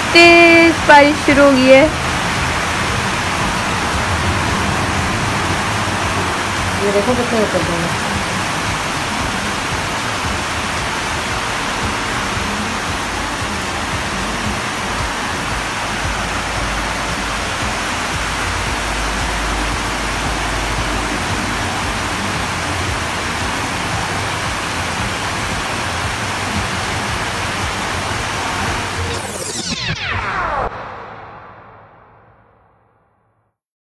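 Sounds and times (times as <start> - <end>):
heavy rain falling: 0.0 - 29.5.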